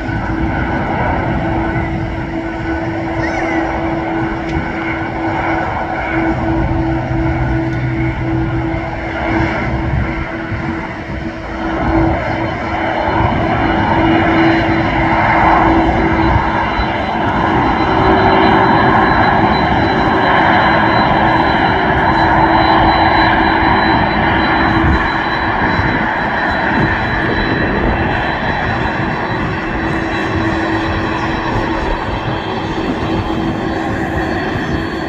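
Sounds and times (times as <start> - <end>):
jet engine high whine: 0.0 - 35.0
jet engines rushing hum: 0.0 - 35.0.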